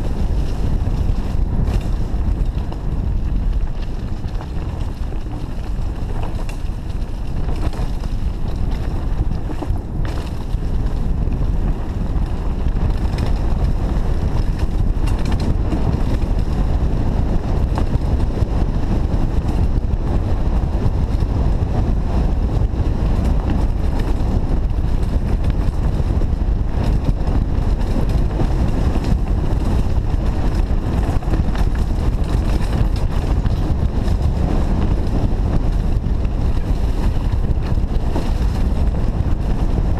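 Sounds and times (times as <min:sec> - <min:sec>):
bike clicks and rattles: 0:00.0 - 0:39.9
tyre rumble on dirt: 0:00.0 - 0:39.9
wind noise on microphone: 0:00.0 - 0:39.9.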